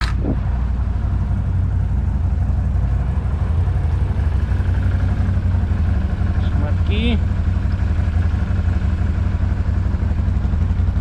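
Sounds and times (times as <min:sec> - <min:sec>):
atv engine droning: 0:00.0 - 0:11.0.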